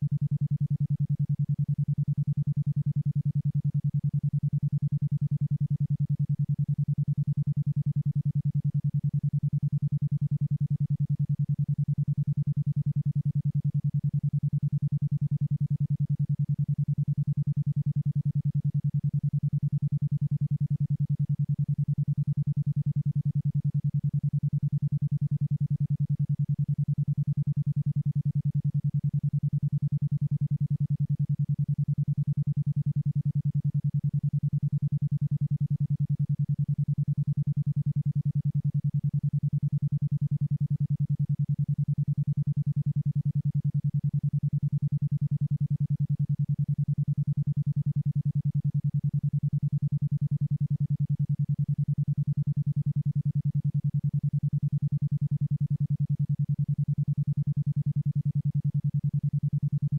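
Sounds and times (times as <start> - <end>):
pulsing low tone: 0.0 - 59.9.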